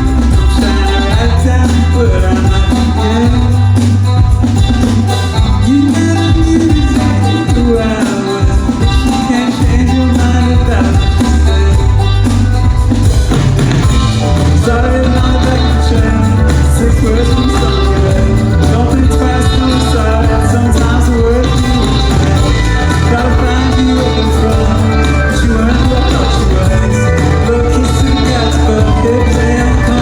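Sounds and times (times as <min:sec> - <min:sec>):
live band playing: 0:00.0 - 0:30.0
person singing: 0:00.0 - 0:30.0.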